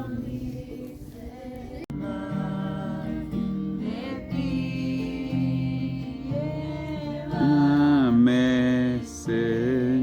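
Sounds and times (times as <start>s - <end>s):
acoustic guitar strumming: 1.8s - 10.0s.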